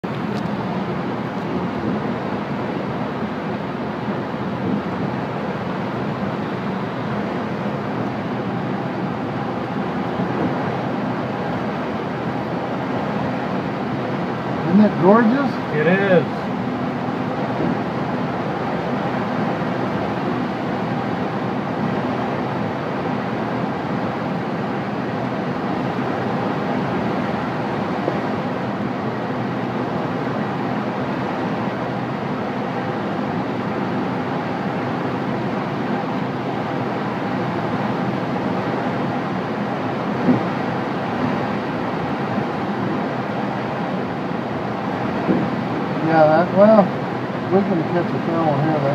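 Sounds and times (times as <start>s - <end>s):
air rushing around glider canopy: 0.0s - 48.9s.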